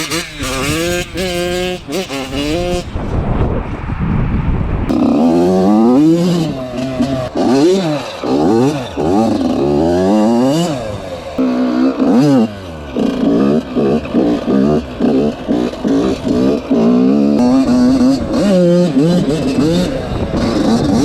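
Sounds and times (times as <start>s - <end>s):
dirt bike engine revving: 0.0s - 3.3s, 4.9s - 21.0s.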